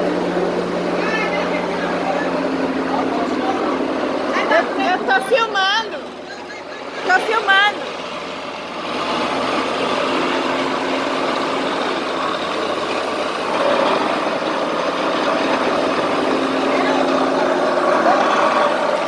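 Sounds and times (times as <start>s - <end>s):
road noise: 0.0s - 19.0s
vehicle engine running: 0.0s - 19.0s.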